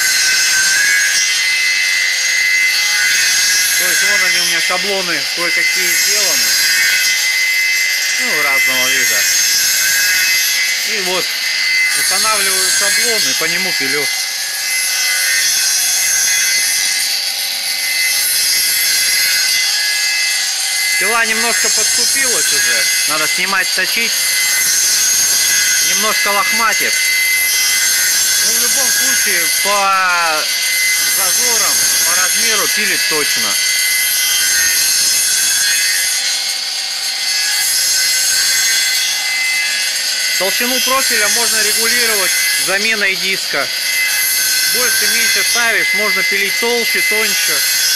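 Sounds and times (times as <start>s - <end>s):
saw disc whining through wood: 0.0s - 47.9s.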